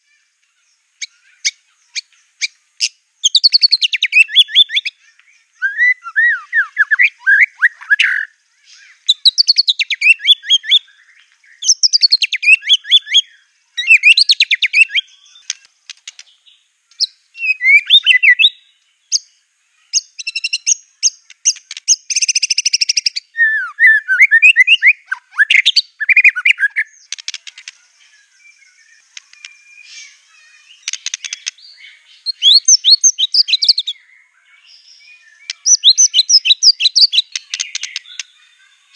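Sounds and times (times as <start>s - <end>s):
bird singing whistled trills: 1.0s - 38.9s.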